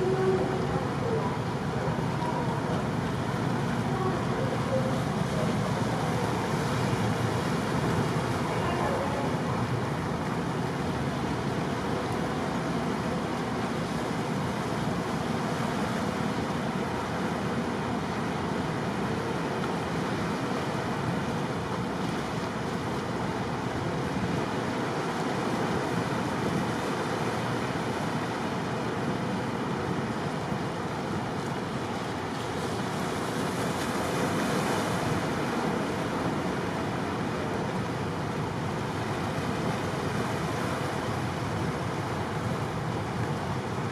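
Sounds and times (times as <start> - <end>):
sea water rushing: 0.0 - 43.9.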